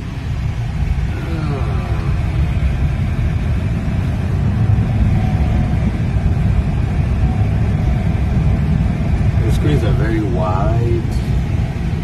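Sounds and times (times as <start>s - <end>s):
road and tyre rumble inside vehicle: 0.0s - 12.0s.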